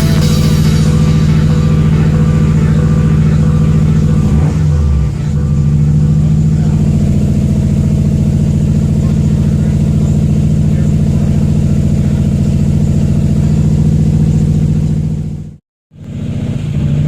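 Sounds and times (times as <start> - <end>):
car engine idling unevenly: 0.0 - 17.0.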